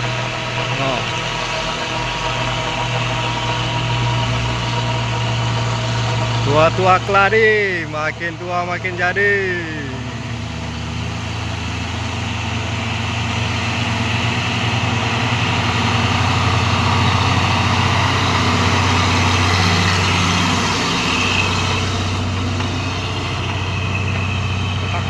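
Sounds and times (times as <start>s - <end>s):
diesel truck engine under load: 0.0s - 25.0s.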